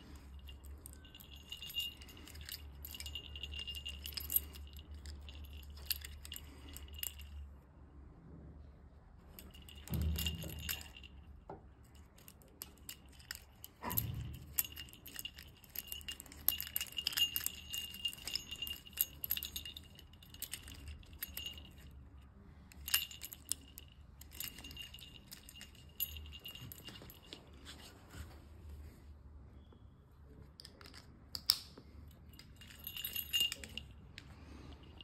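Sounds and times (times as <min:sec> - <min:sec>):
metal rings clinking: 0:00.0 - 0:07.5, 0:09.3 - 0:27.9, 0:30.6 - 0:35.0.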